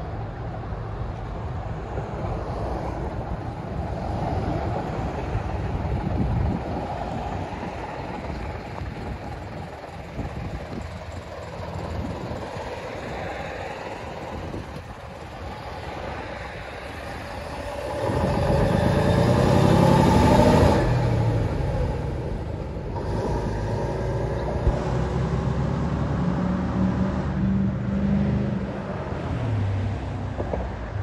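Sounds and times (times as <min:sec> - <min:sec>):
large vehicle engine revving: 0:04.6 - 0:30.4.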